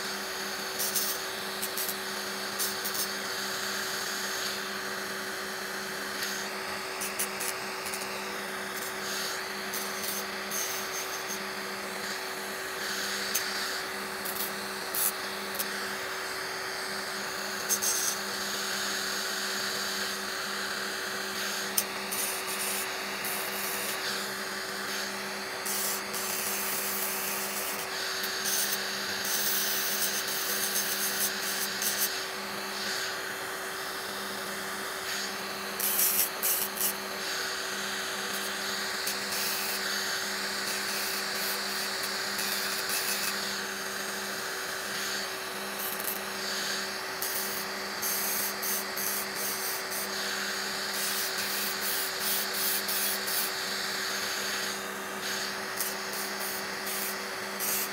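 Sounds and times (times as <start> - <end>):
electric nail drill humming: 0.0 - 57.9.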